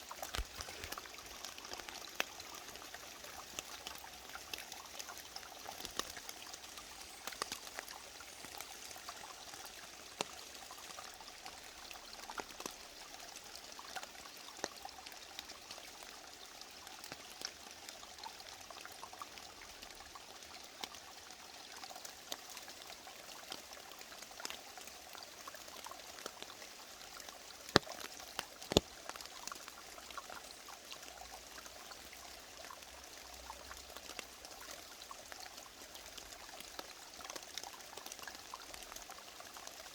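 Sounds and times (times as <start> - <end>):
small splashes and trickles: 0.0 - 39.9
stream running: 0.0 - 39.9.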